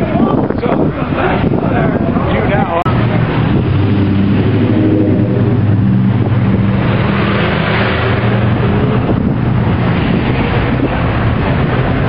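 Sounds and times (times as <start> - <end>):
vehicle engine humming: 0.7 - 12.0.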